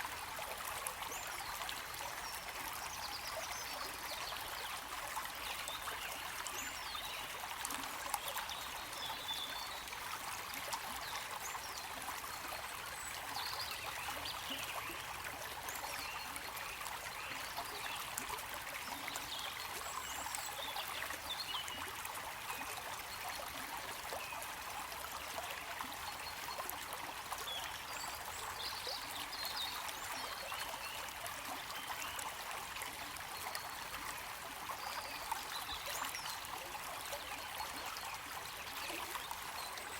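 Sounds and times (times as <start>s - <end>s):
stream of water trickling: 0.0s - 39.9s.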